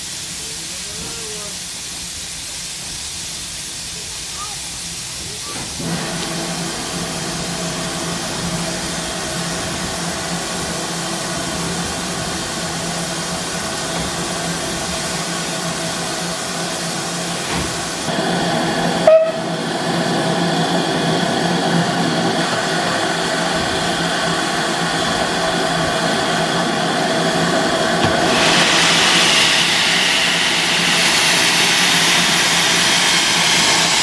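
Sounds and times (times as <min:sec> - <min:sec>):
steam locomotive hissing steam: 0:00.0 - 0:34.0.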